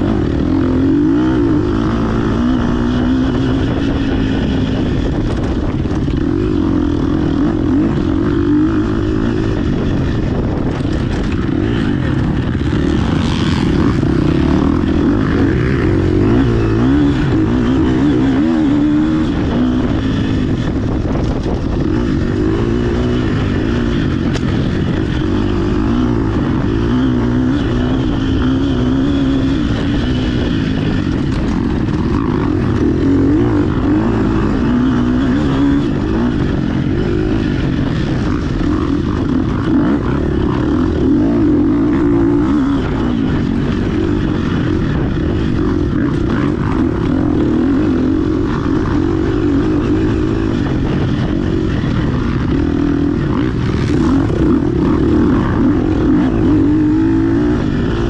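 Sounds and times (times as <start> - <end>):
chassis rattle: 0.0 - 58.0
dirt bike engine revving: 0.0 - 58.0
wind on microphone: 0.0 - 58.0.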